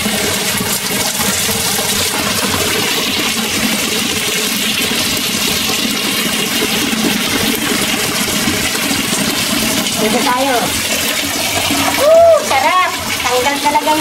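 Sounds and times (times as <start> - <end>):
water splashing into pool: 0.0 - 14.0.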